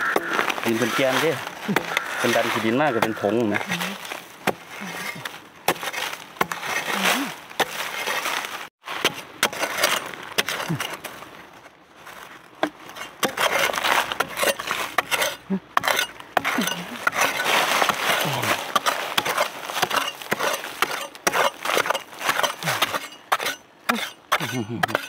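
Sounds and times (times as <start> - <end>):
spade chopping into dry soil: 0.0 - 11.1, 12.6 - 25.0
earth scraping and pattering: 0.0 - 25.0.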